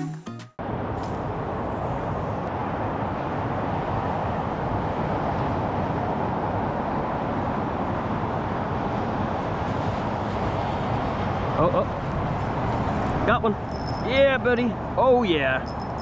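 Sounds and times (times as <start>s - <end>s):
freeway traffic drone: 0.6s - 16.0s.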